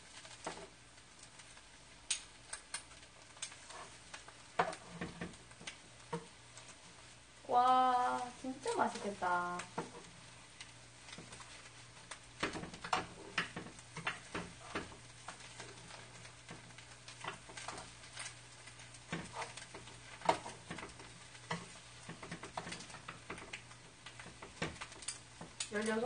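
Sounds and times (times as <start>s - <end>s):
faint frying sizzle: 0.0s - 26.0s
chopsticks tapping frying pan: 0.2s - 6.7s, 7.6s - 26.0s.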